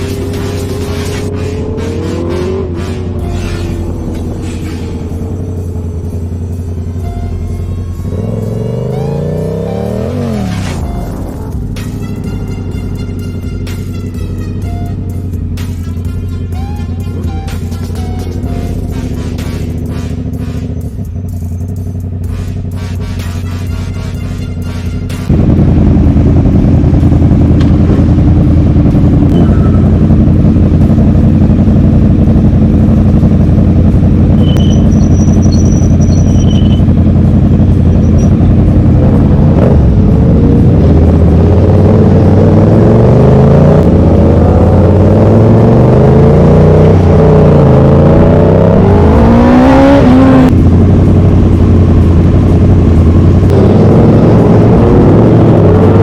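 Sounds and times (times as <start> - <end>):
vehicle engine idling and revving: 0.0 - 56.0.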